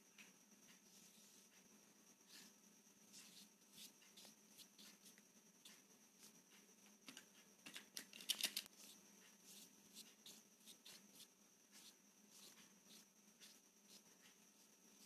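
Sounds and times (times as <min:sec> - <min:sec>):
paintbrush strokes on paper: 0:00.7 - 0:07.0, 0:08.7 - 0:15.0.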